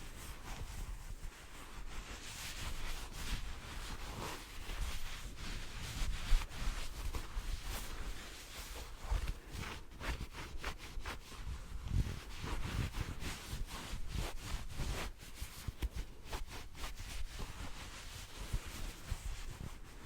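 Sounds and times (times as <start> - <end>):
hands rubbing and swishing: 0.0 - 20.0.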